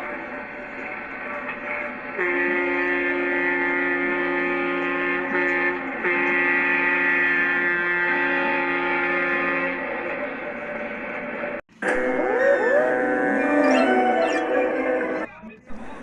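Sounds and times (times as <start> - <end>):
locomotive air horn: 0.0 - 10.8, 11.8 - 15.3.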